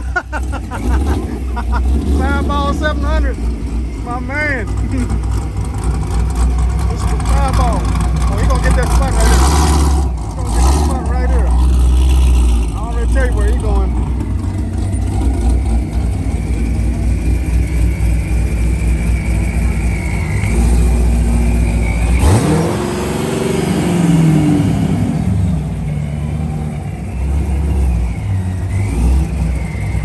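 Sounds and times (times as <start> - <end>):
car engine idling: 0.0 - 30.0
engine throttle blip: 0.0 - 30.0.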